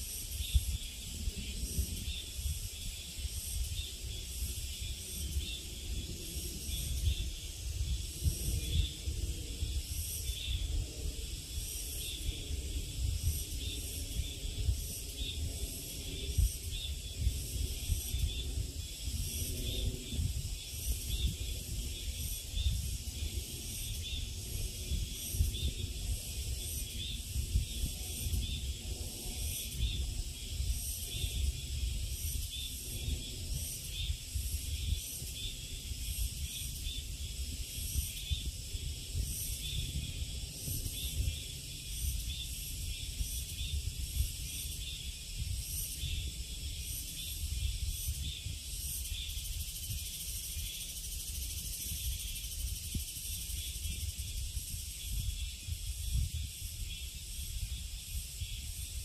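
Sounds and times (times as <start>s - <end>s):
insects buzzing chorus: 0.0s - 59.0s
wind rumble on microphone: 0.0s - 59.0s.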